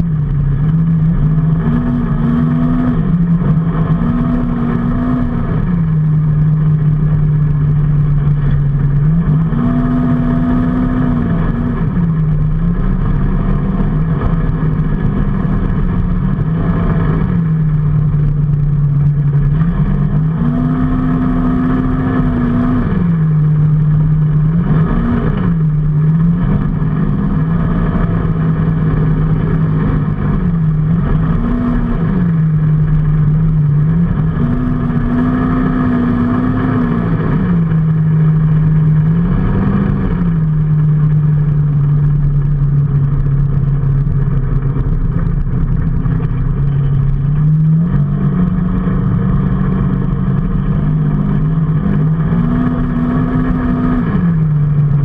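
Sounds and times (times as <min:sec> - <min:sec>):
road noise: 0:00.0 - 0:55.0
vehicle engine accelerating: 0:00.0 - 0:55.0.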